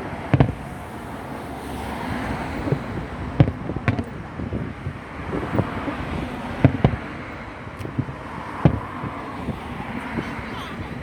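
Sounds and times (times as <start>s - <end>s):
fireworks bangs: 0.0s - 1.3s, 2.2s - 11.0s
wind on microphone: 0.0s - 11.0s.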